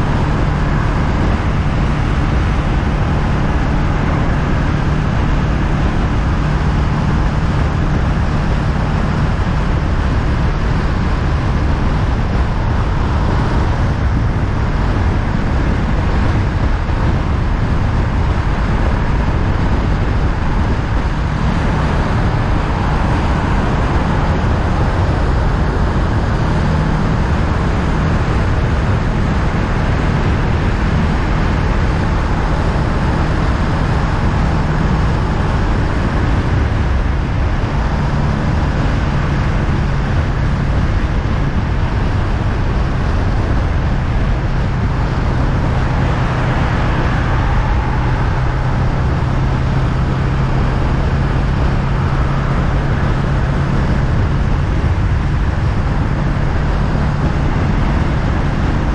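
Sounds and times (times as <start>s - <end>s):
motorcycle engine cruising: 0.0s - 58.9s
road and wind noise: 0.0s - 58.9s.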